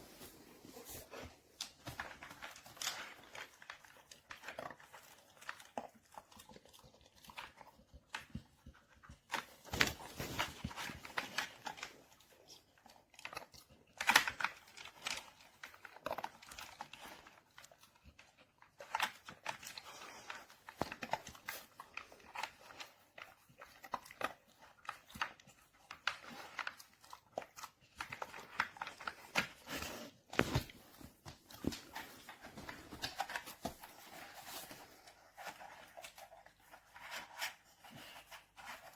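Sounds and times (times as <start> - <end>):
rustling and crinkling: 0.0 - 38.9.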